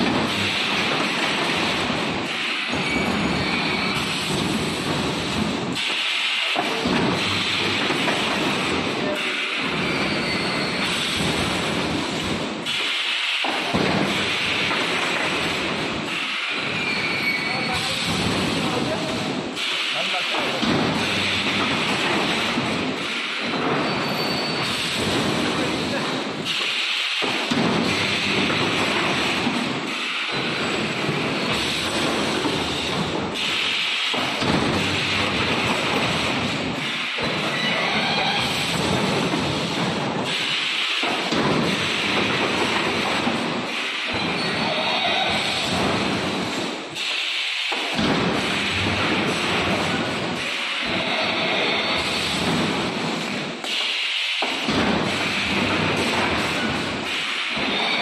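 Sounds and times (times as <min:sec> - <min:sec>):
welding machine rushing din: 0:00.0 - 0:58.0.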